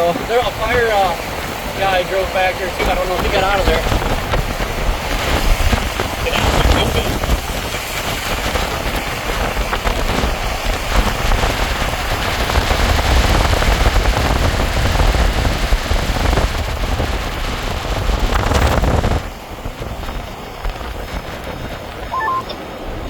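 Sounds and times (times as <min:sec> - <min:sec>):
deep storm rumble: 0:00.0 - 0:23.0
wind and rain crackling on microphone: 0:00.0 - 0:23.0.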